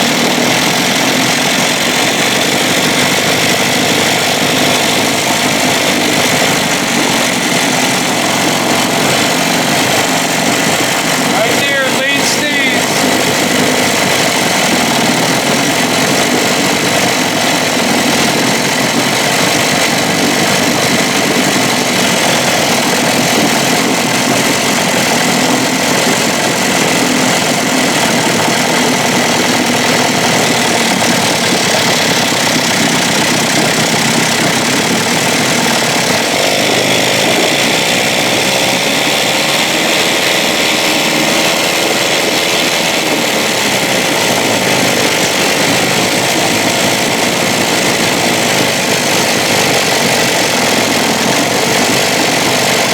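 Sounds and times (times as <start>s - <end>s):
outboard motor running: 0.0s - 52.9s.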